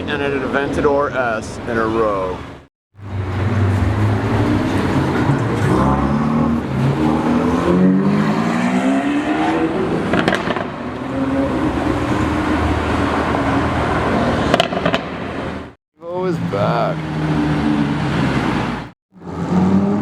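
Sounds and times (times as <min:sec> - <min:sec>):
car engine accelerating: 0:03.0 - 0:20.0.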